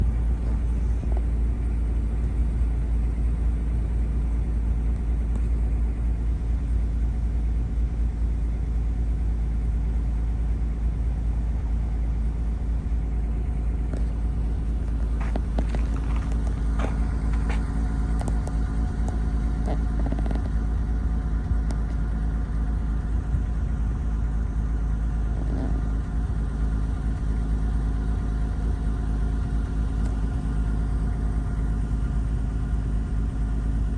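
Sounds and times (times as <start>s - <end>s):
car rumble: 0.0s - 33.9s.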